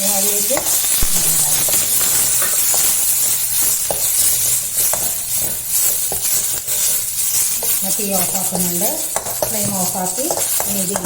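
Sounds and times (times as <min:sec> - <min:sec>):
leaves frying in oil: 0:00.0 - 0:11.0
sharp ticks while stirring: 0:00.0 - 0:11.0.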